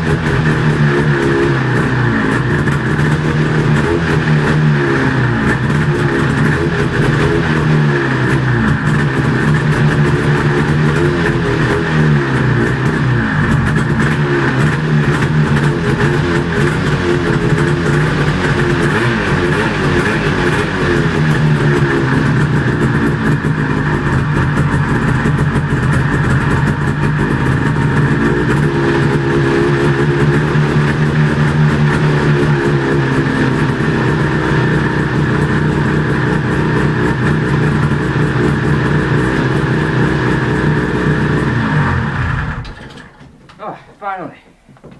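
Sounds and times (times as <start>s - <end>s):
snowmobile engine revving: 0.0s - 42.8s.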